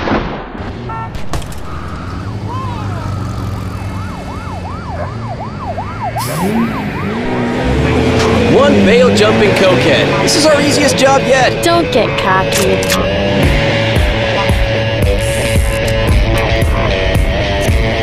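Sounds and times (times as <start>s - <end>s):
low city rumble: 0.5s - 18.0s
siren wailing: 0.9s - 15.8s.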